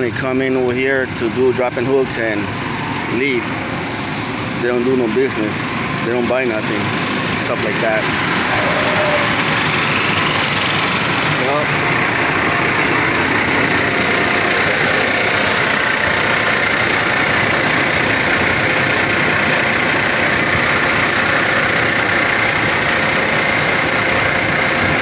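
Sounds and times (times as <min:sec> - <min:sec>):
diesel truck engine running: 0:00.0 - 0:25.0.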